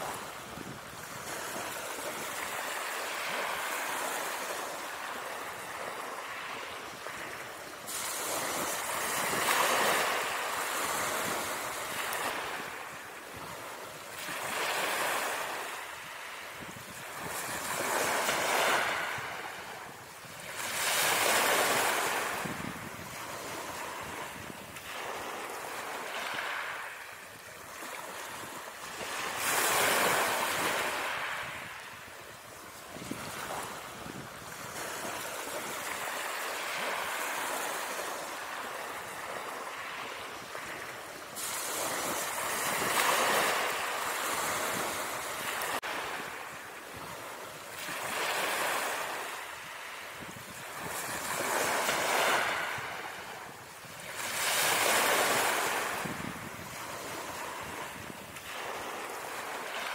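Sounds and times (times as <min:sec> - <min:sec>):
surf washing onto a beach: 0:00.0 - 0:59.9.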